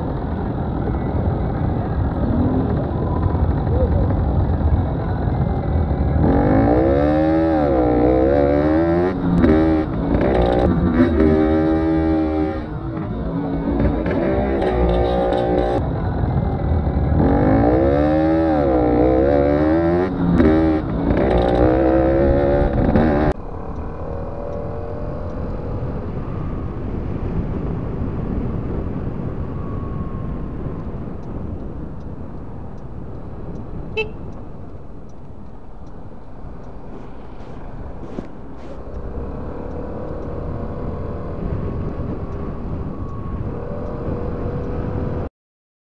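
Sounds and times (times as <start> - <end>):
scooter wind and road noise: 0.0 - 45.3.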